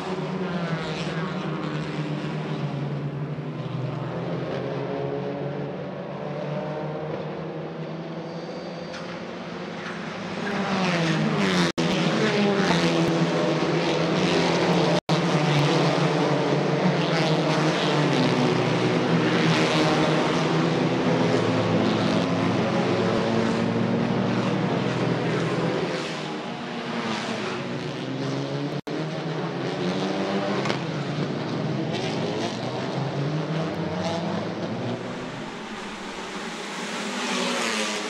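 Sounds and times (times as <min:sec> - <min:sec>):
race car engines passing: 0:00.0 - 0:38.0.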